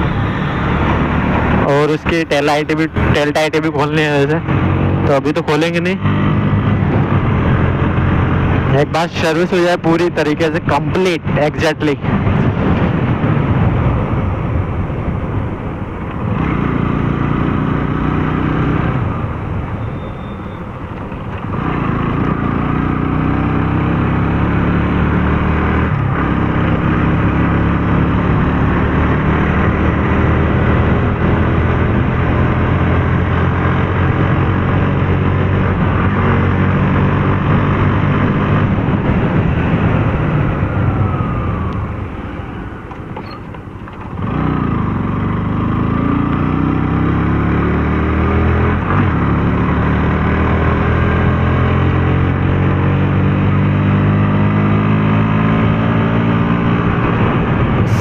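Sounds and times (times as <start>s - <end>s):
motorcycle engine revving: 0.0s - 9.4s, 16.1s - 58.0s.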